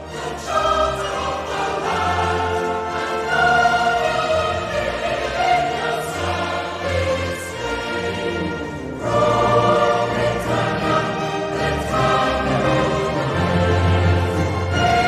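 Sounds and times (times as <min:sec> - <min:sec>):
choir singing anthem with orchestra: 0:00.0 - 0:15.0.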